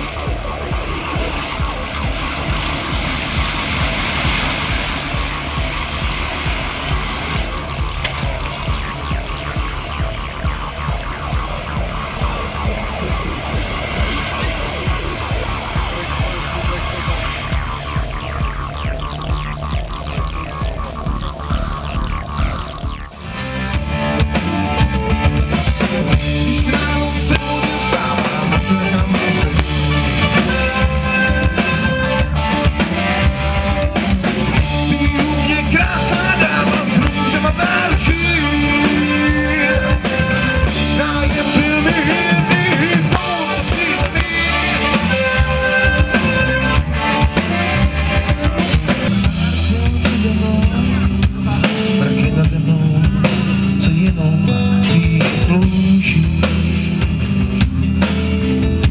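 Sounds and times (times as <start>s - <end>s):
live rock band: 0.0s - 58.9s.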